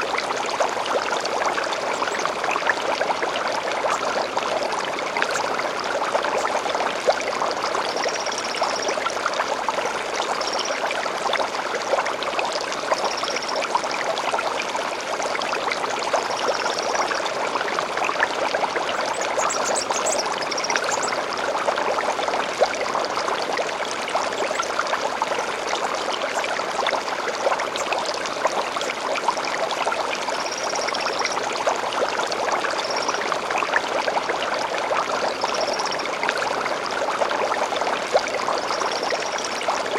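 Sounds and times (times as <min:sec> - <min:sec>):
stream flowing and splashing: 0:00.0 - 0:39.9.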